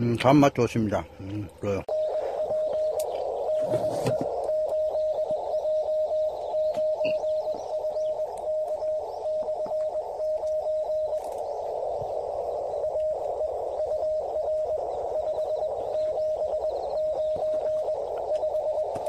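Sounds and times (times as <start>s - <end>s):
receiver hiss: 0.0s - 19.0s
morse code beeps: 1.9s - 19.0s.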